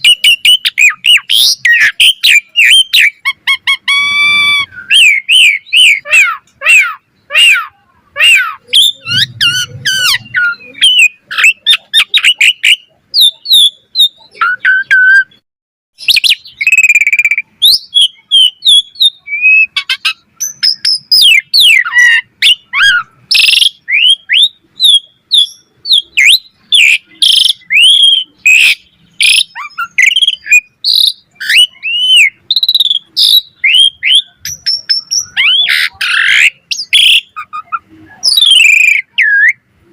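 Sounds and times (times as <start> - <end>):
starling singing: 0.0 - 15.4, 16.0 - 39.9.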